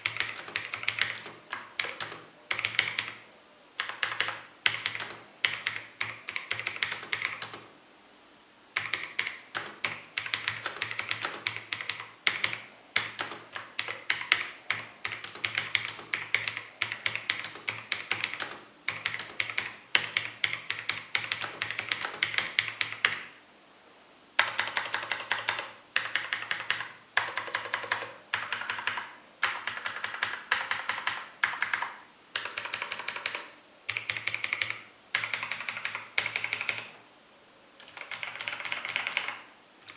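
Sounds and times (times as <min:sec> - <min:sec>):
mechanical keyboard typing: 0:00.0 - 0:03.2, 0:03.8 - 0:07.7, 0:08.8 - 0:23.3, 0:24.4 - 0:36.9, 0:37.8 - 0:39.9.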